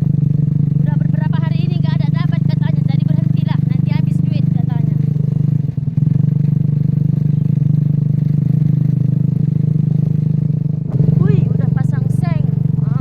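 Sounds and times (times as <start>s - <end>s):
cart engine humming: 0.0s - 13.0s.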